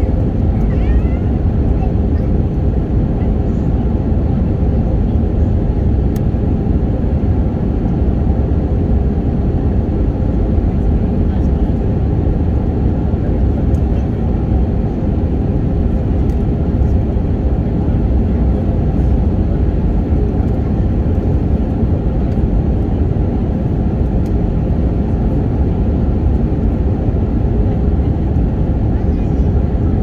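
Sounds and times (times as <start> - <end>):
airliner engine and airflow roar: 0.0 - 30.0.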